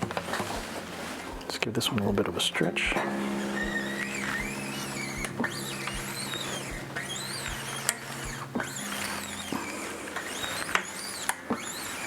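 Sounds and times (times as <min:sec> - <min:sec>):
faint backing track with beat: 0:00.0 - 0:12.0
guitar string rubbing and squeaks: 0:00.0 - 0:12.0.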